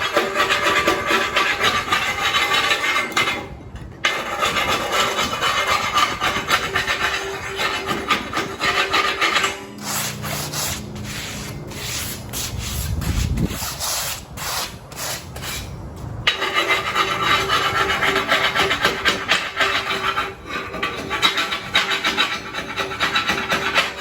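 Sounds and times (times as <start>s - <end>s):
hand scraping steel plate: 0.0s - 24.0s.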